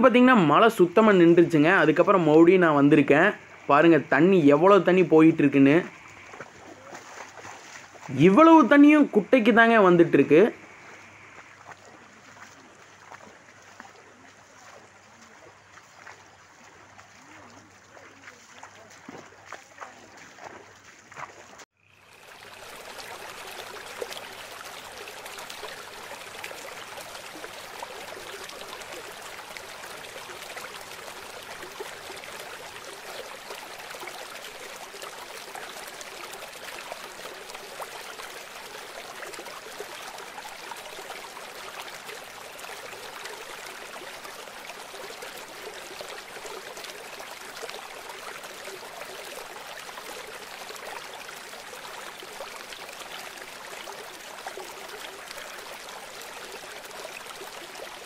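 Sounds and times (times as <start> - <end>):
rainwater runoff rushing: 0.0 - 58.0.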